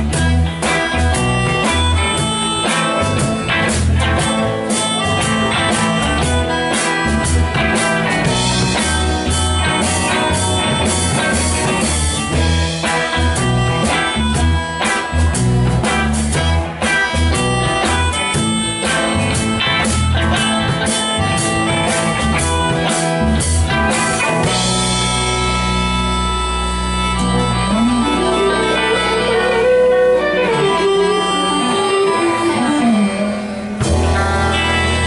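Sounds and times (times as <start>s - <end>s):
drum kit: 0.0s - 32.2s, 33.7s - 35.0s
bass guitar pulse: 0.0s - 35.0s
electric guitars: 0.0s - 35.0s.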